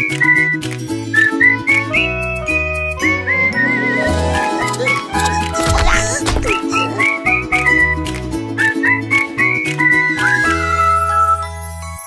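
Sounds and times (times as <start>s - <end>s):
bouncy cartoon music: 0.0s - 12.0s.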